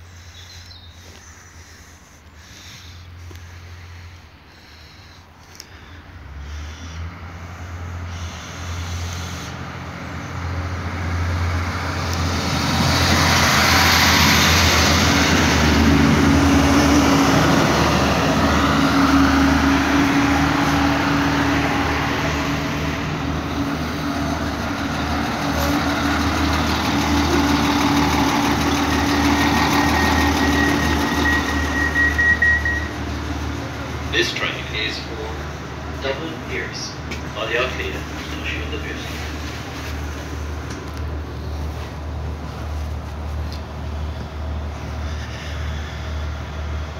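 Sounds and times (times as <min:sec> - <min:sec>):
low engine hum: 0:00.0 - 0:46.9
train engines and wheels: 0:00.0 - 0:46.9.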